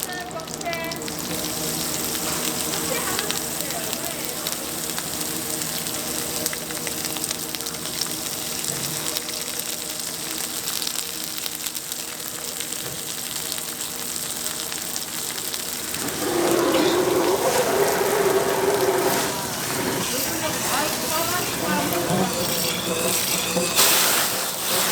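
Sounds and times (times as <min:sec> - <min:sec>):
lobster sizzling on a grill: 0:00.0 - 0:24.9.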